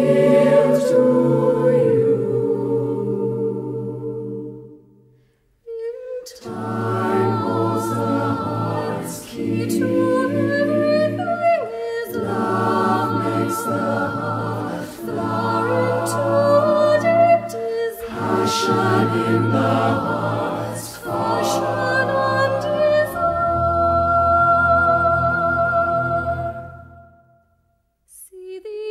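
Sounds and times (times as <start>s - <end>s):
choir singing held chords: 0.0s - 5.2s, 6.3s - 27.3s.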